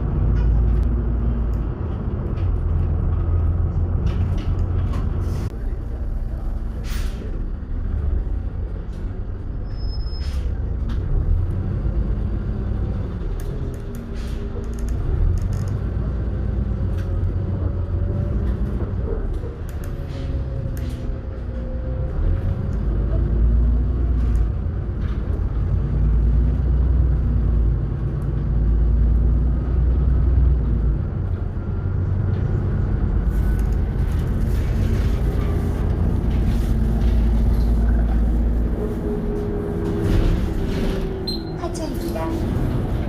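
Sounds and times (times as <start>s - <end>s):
bus engine and road rumble: 0.0s - 43.0s.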